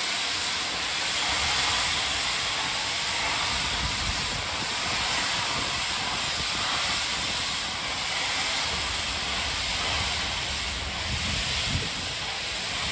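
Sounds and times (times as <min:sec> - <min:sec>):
steam hissing: 0:00.0 - 0:12.9.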